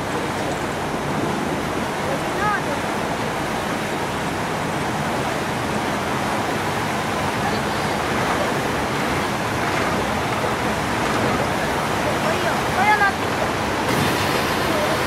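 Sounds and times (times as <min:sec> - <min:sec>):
propeller wash churning: 0:00.0 - 0:15.0.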